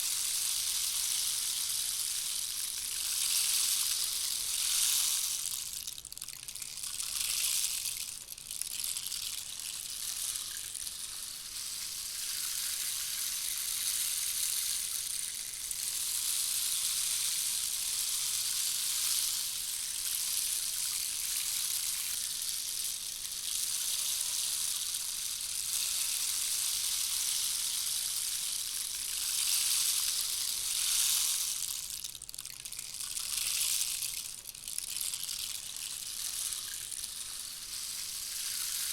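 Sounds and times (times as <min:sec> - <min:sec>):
rainstick pellets hissing: 0:00.0 - 0:38.9.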